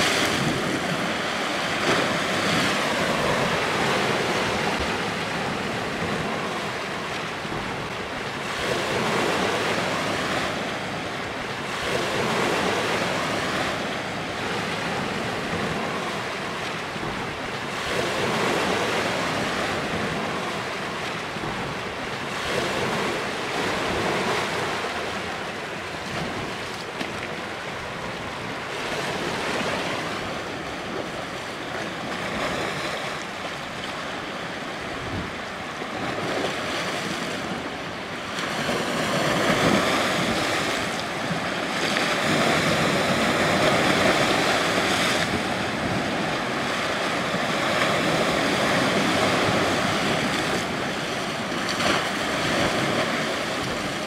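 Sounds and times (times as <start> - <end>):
waves splashing against rock: 0.0 - 54.0.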